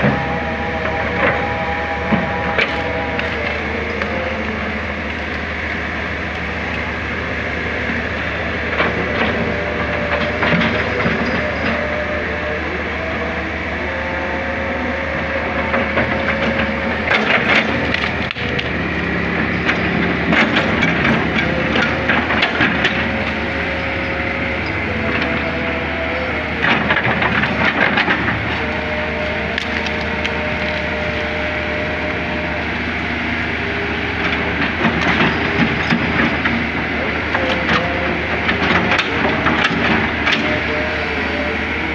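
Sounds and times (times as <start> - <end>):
diesel engine running: 0.0 - 41.9
hydraulic whine: 0.0 - 41.9.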